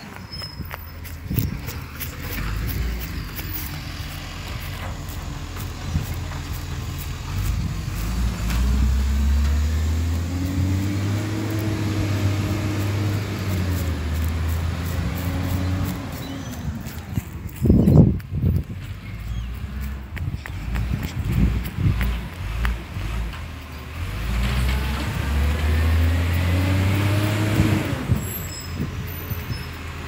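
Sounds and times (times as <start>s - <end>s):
garbage truck engine: 0.0s - 18.1s, 18.7s - 30.0s.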